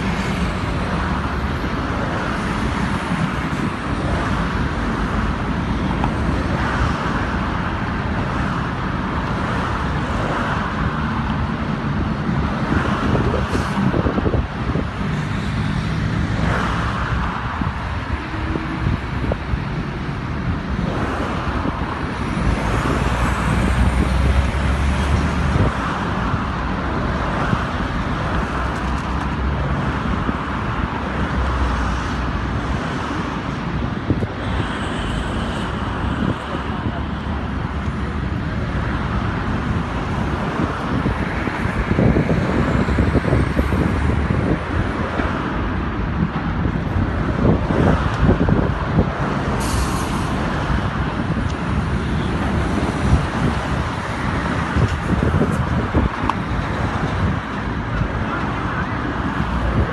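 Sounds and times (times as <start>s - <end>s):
diesel truck engines rumbling: 0.0s - 59.9s
motorway traffic noise: 0.0s - 59.9s.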